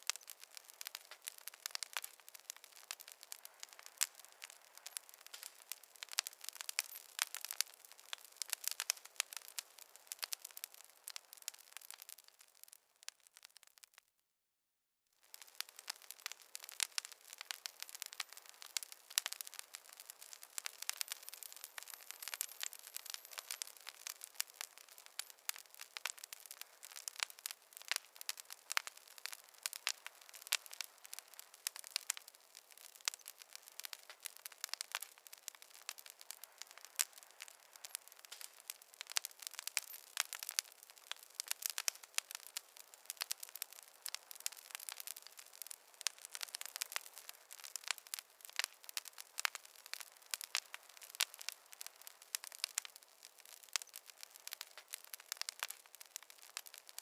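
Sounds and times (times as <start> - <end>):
wood fire crackling: 0.0 - 14.0, 15.2 - 57.0.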